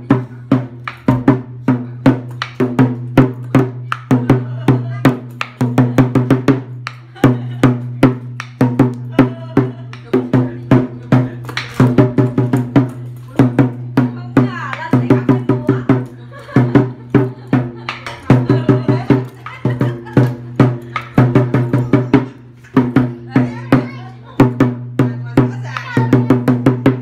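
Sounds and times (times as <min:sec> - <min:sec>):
drum beating: 0:00.0 - 0:27.0.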